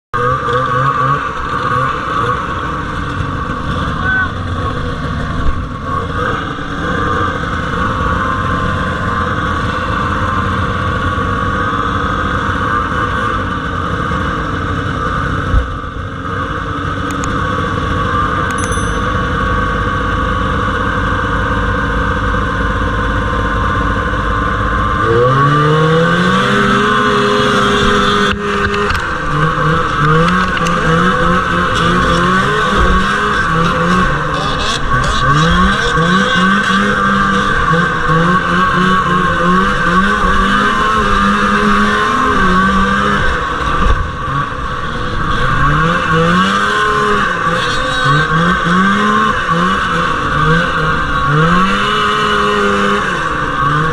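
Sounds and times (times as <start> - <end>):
snowmobile engine revving: 0.2 - 19.0, 19.6 - 53.9.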